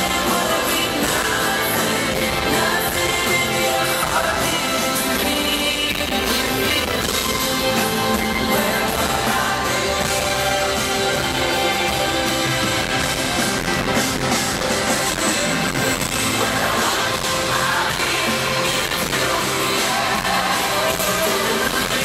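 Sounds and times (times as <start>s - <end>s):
live pop concert music: 0.0s - 22.0s
person singing: 0.0s - 22.0s.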